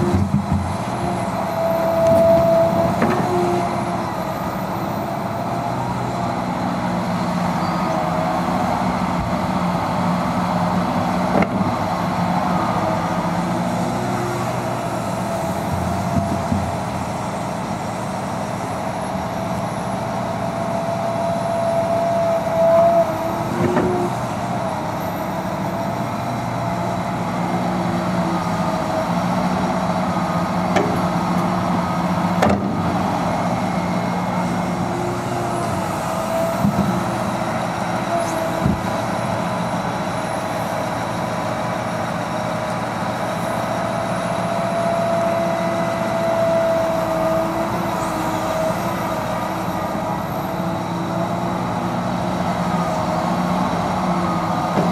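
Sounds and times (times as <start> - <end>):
excavator diesel engine: 0.0 - 54.9.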